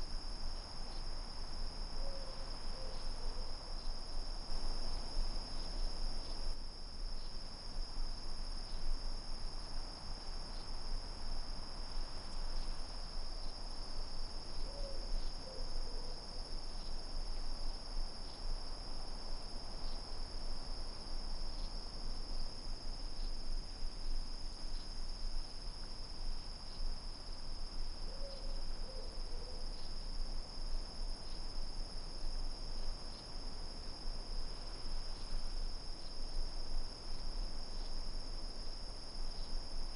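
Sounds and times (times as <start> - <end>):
night insects chorus: 0.0 - 39.9.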